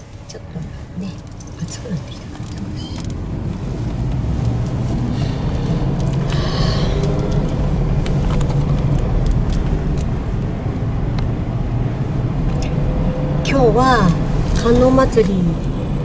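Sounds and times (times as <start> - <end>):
road and engine rumble in car: 0.0 - 16.0.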